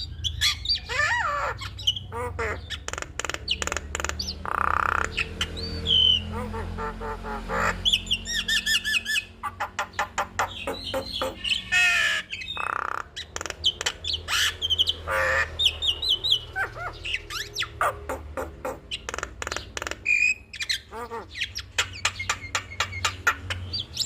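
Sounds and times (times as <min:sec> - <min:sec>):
bird singing varied song: 0:00.0 - 0:24.0.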